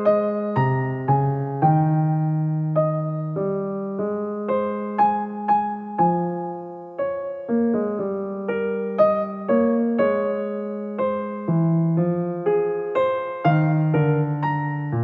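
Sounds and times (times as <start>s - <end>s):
gentle solo piano melody: 0.0s - 15.0s.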